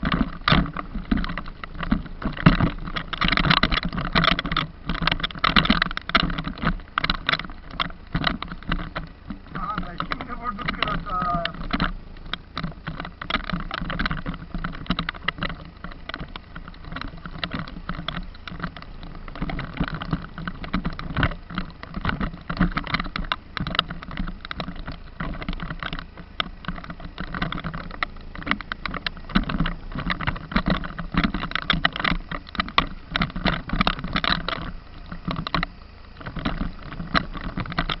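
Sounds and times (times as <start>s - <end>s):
knocks and rattles: 0.0s - 38.0s
vehicle rumble on dirt road: 0.0s - 38.0s.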